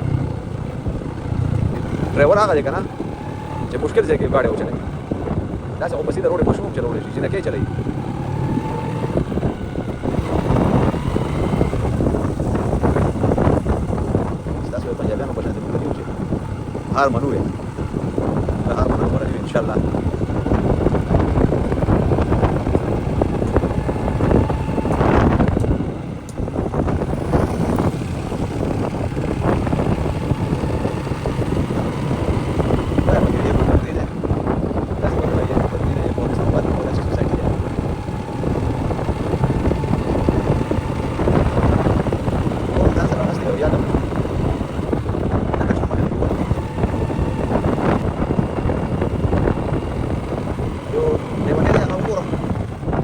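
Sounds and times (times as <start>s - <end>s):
motorcycle engine running: 0.0s - 53.0s
road noise: 0.0s - 53.0s
wind rushing over microphone: 0.0s - 53.0s.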